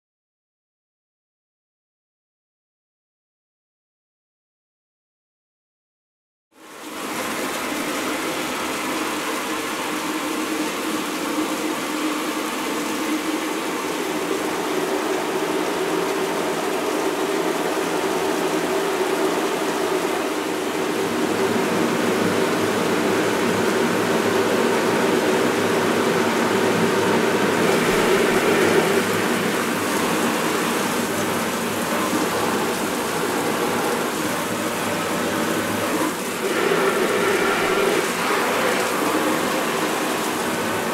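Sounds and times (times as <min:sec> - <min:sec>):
water spraying from shower heads: 0:07.1 - 0:40.9.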